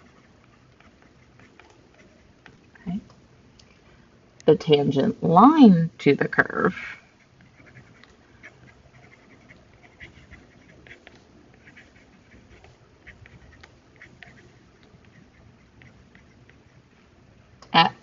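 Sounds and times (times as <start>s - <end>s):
stylus writing on tablet screen: 0.0s - 3.0s, 4.5s - 17.1s.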